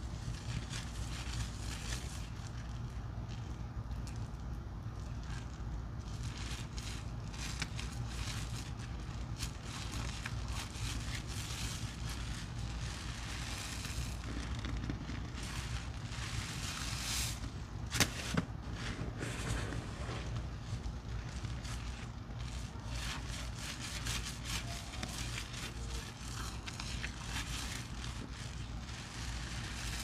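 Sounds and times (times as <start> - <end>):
soap suds crackling and squelching: 0.0 - 30.0.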